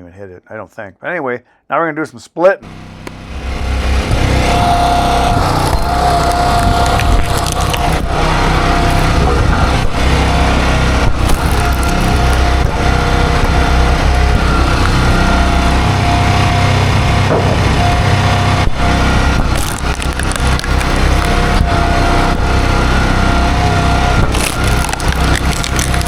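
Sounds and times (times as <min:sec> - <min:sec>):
constant whine: 0:02.6 - 0:26.0
small gasoline engine running: 0:02.7 - 0:26.0.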